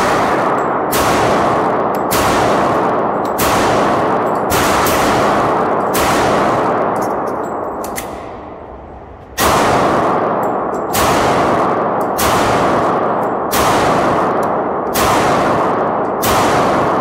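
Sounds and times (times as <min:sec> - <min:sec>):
pistol shots echoing indoors: 0:00.0 - 0:17.0.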